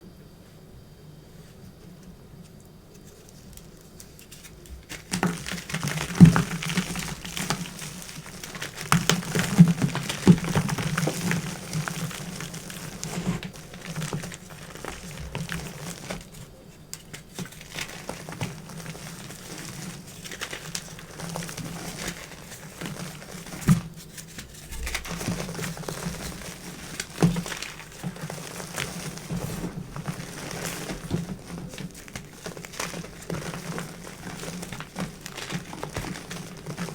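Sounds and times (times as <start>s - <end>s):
chalk crunching and crackling: 2.4s - 36.9s.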